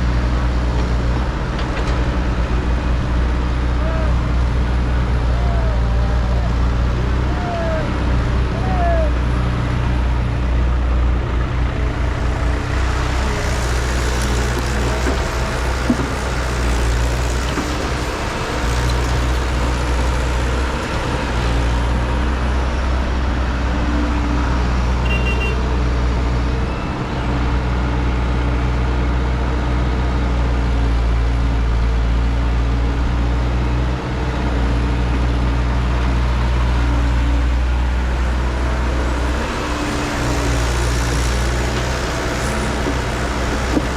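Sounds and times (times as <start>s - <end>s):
heavy machine engine rumbling: 0.0s - 43.9s.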